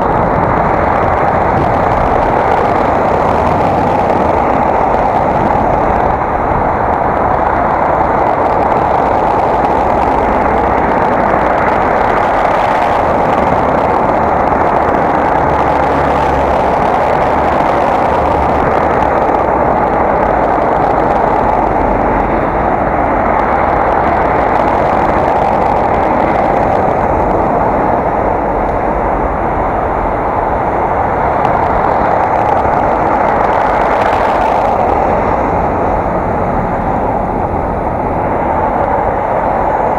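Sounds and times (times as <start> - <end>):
road noise while cycling: 0.0 - 39.9
wind rushing: 0.0 - 39.9.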